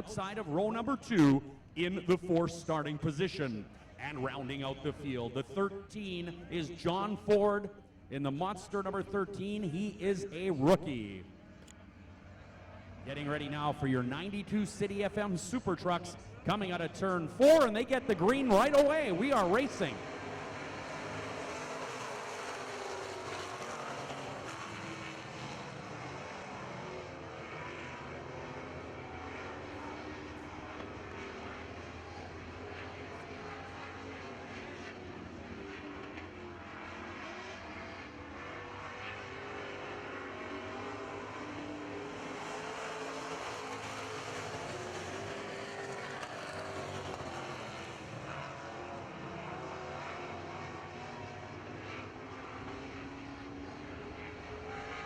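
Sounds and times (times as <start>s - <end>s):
racing truck engines at high revs: 0.0s - 55.0s.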